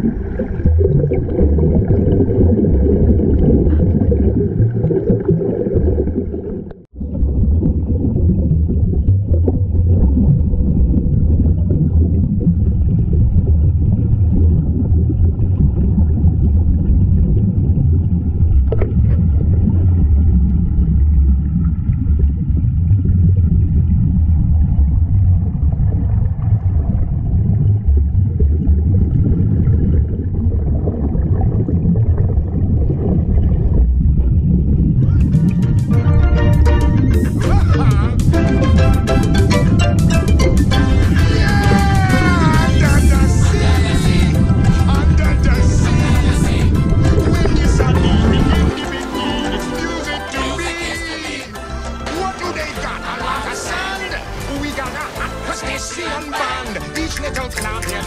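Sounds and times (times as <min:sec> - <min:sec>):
low underwater rumble: 0:00.0 - 0:55.2.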